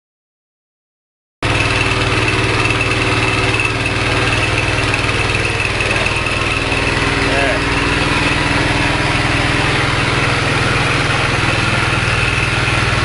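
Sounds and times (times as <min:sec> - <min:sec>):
small petrol engine running: 0:01.4 - 0:13.0.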